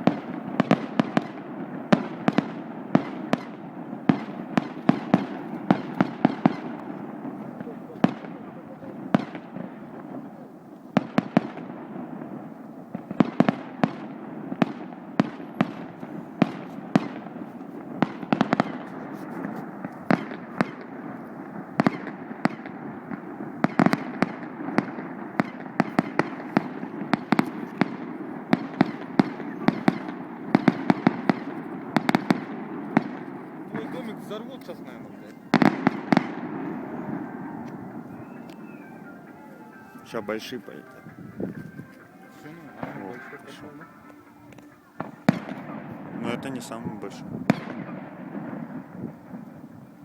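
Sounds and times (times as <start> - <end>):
fireworks bangs and cracks: 0.0 - 50.0
low background noise: 0.0 - 50.0.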